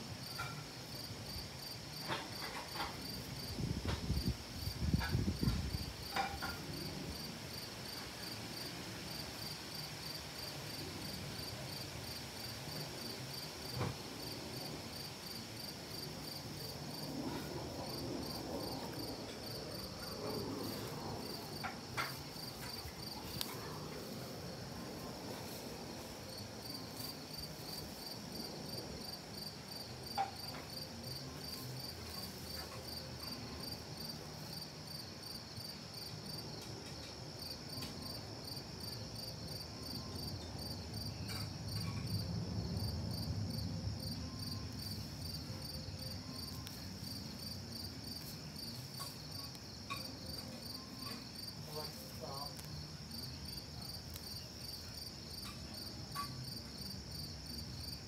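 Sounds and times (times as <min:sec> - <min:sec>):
pulsing insect chorus: 0:00.2 - 0:58.0.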